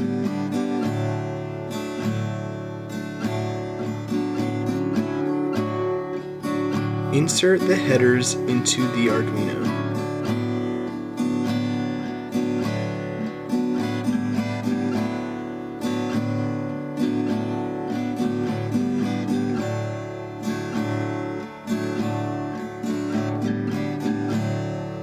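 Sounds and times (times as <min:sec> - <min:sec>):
acoustic guitar strumming and picking: 0:00.0 - 0:25.0.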